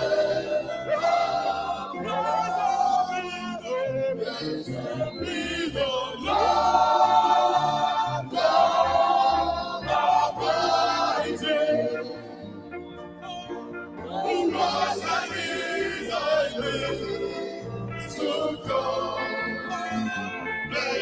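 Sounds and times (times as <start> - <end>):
choir and congregation singing: 0.0 - 21.0.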